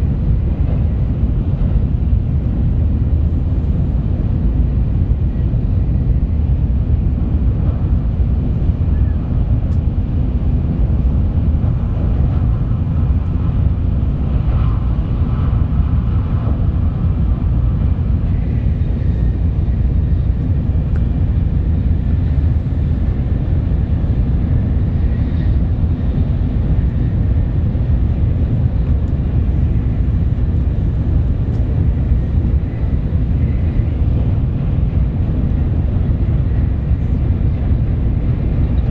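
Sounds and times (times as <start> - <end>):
train rumbling at speed: 0.0 - 38.9.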